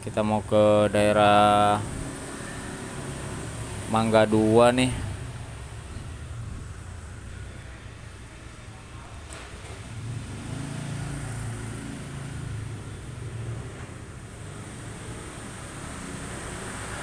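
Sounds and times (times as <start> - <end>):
vehicle engine passing: 0.0 - 17.0.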